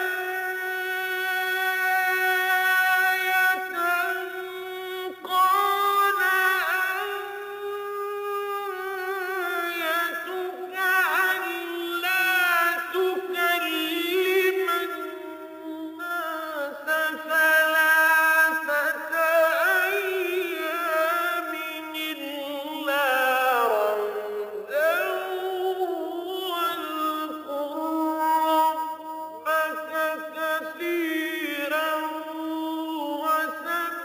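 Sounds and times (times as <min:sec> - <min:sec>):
man chanting melodically: 0:00.0 - 0:34.0.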